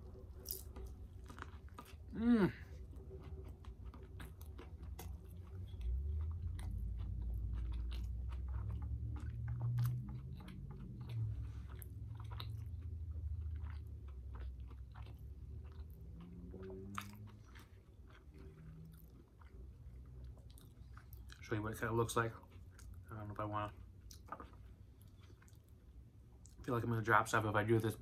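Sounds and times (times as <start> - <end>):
wet chewing and lip-smacking: 0.1 - 26.7.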